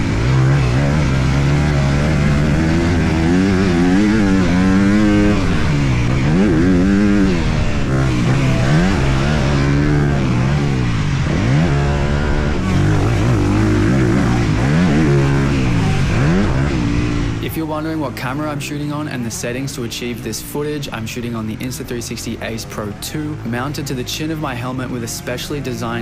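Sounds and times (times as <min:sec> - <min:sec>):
motocross engine revving: 0:00.0 - 0:26.0.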